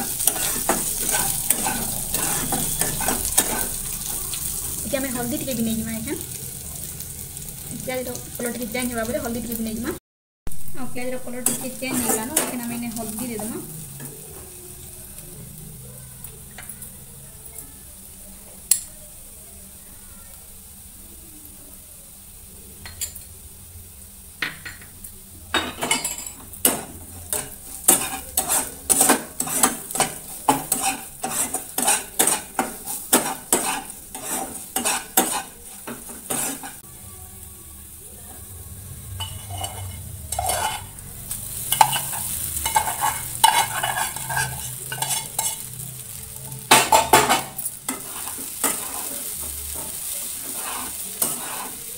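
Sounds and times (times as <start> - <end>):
onions sizzling in oil: 0.0 - 51.9.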